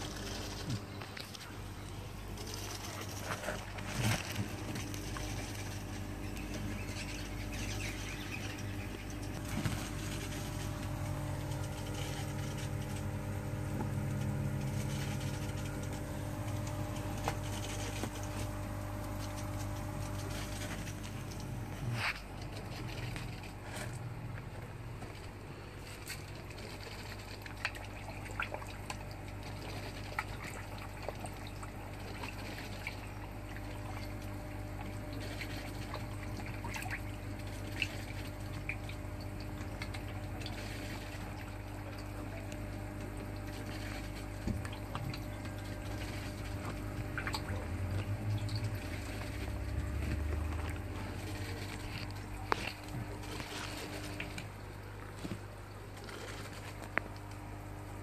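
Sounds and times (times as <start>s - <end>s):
small drips: 0.0s - 58.0s
steady low hum: 0.0s - 58.0s
water trickling into fish tank: 0.0s - 58.0s.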